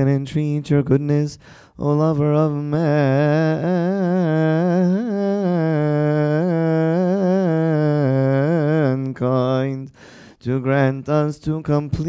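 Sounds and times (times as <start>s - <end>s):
man chanting a held vowel: 0.0s - 12.0s.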